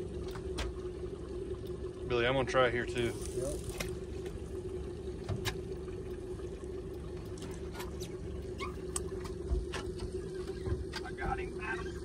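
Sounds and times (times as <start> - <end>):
boat motor running: 0.0 - 12.0
water sloshing against hull: 0.0 - 12.0.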